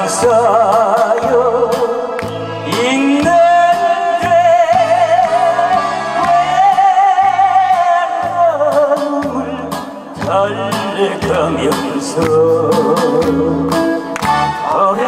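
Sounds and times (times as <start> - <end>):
backing track with steady beat: 0.0 - 15.0
man singing into a microphone: 0.0 - 15.0.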